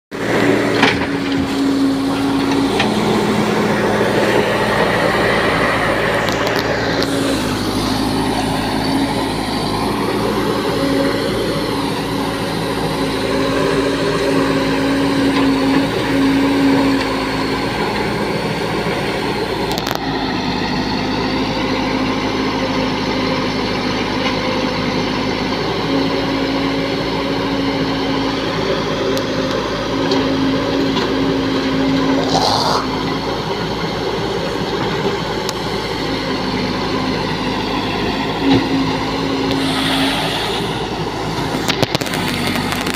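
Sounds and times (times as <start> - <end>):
backhoe diesel engine under load: 0.1 - 42.9
tractor engine idling: 0.1 - 42.9.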